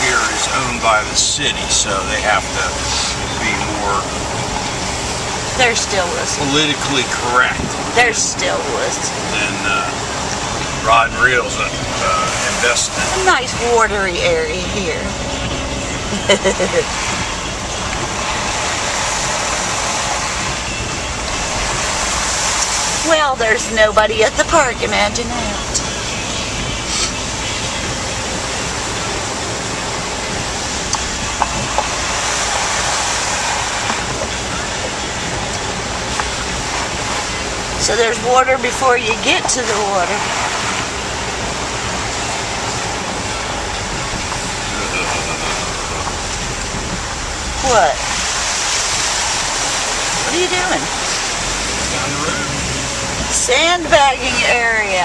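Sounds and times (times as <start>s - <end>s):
low road rumble: 0.0s - 55.0s
rain: 0.0s - 55.0s
tyres hissing on wet road: 0.0s - 55.0s.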